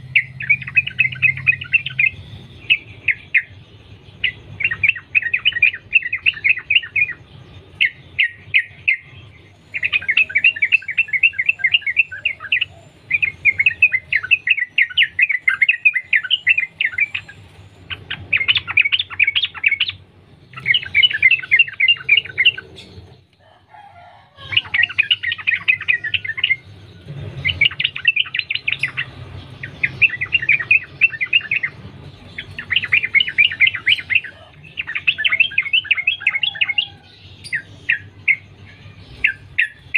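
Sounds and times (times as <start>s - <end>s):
bulbul singing chattering notes: 0.0s - 23.4s, 24.5s - 39.9s.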